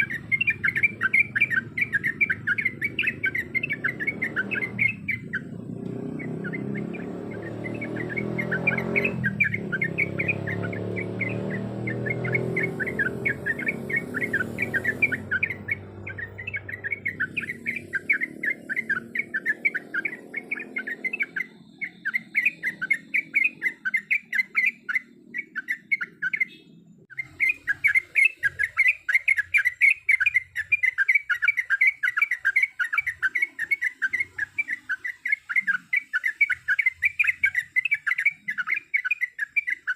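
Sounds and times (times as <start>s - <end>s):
bulbul chattering: 0.0s - 39.9s.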